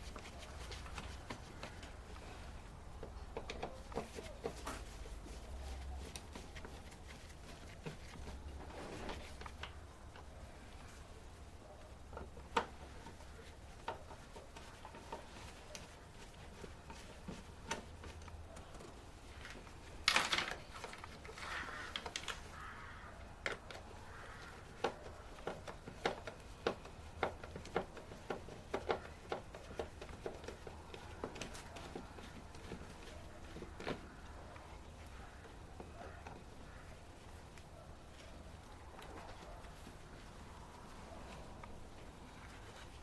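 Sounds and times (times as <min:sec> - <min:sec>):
light clicks and knocks: 0:00.0 - 0:43.0.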